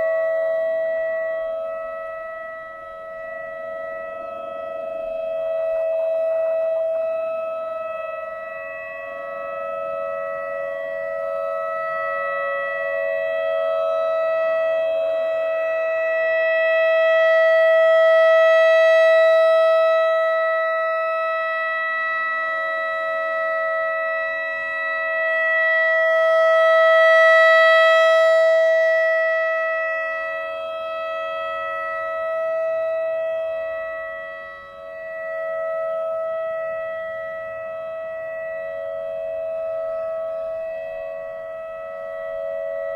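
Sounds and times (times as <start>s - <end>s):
warning siren steady tone: 0.0s - 42.9s.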